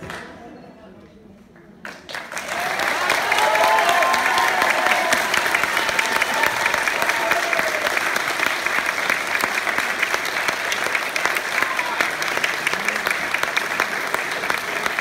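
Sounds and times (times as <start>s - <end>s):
audience applauding: 1.9s - 15.0s.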